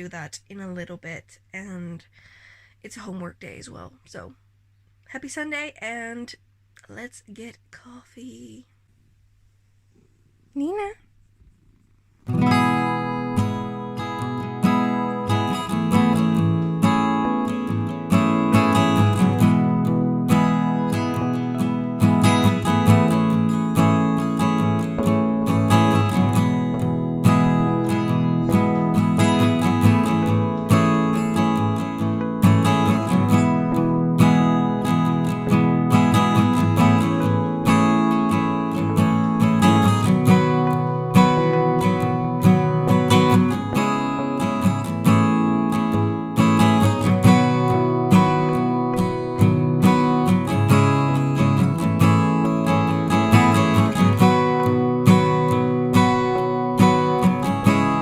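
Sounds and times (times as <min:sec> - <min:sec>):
acoustic guitar music: 0:11.5 - 0:58.0.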